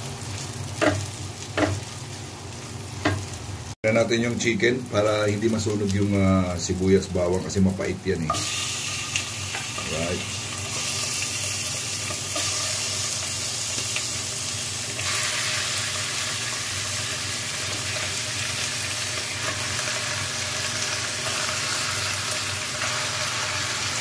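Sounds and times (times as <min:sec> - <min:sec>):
chicken sizzling in a pot: 0:00.0 - 0:24.0.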